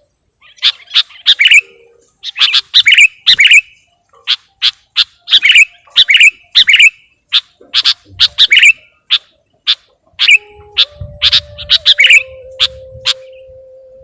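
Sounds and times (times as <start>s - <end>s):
faint steady tone: 0.0s - 14.0s
bulbul chirping: 0.4s - 13.5s.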